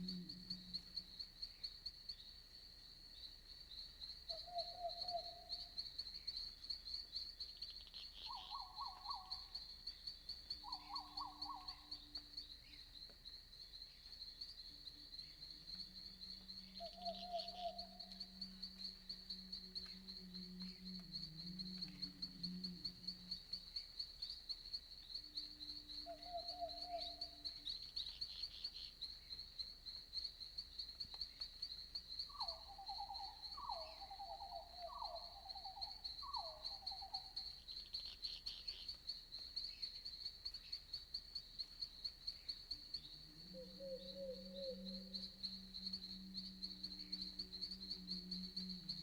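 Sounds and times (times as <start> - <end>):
crickets chirping: 0.0 - 49.0.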